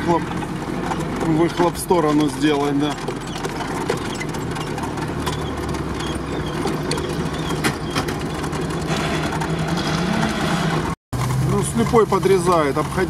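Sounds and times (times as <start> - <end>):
engine running: 0.0 - 13.0
vehicle body knocking and rattling: 0.0 - 13.0.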